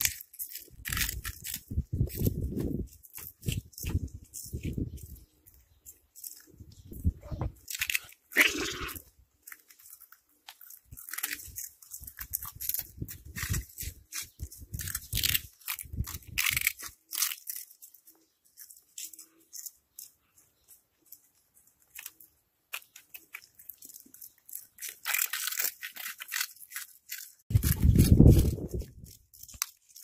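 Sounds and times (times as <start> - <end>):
cats crunching snack balls: 0.0 - 30.0.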